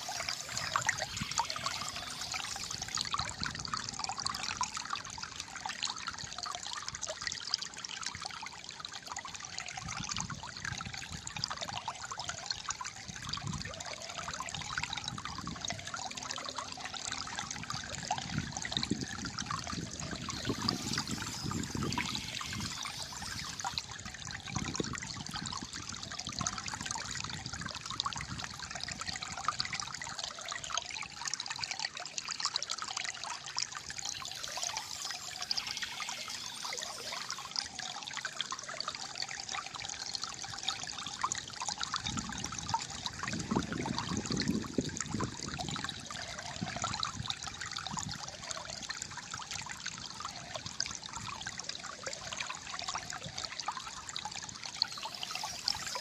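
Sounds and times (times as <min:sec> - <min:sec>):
water gurgling over stones: 0:00.0 - 0:56.0.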